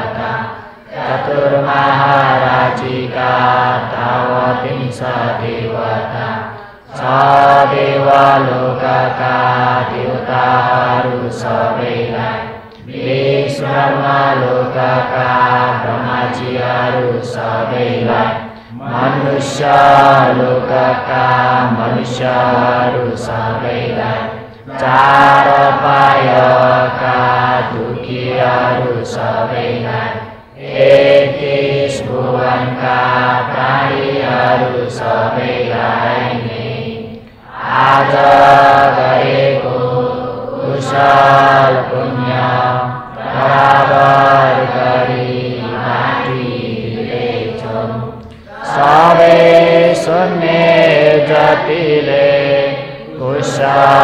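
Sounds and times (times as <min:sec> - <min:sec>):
voices chanting together: 0:00.0 - 0:54.0.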